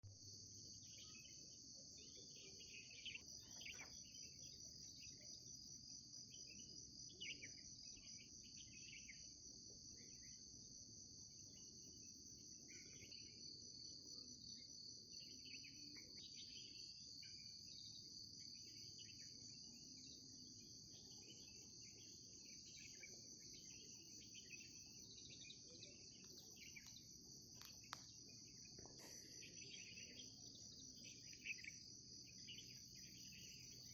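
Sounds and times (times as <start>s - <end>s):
insect chorus trilling: 0.2s - 33.9s
bird chirps: 0.8s - 10.4s, 11.6s - 33.9s.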